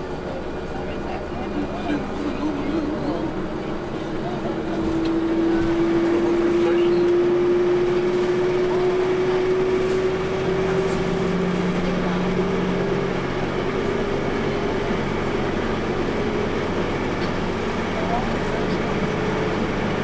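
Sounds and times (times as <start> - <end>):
vehicle engine drone from inside: 0.0 - 20.0.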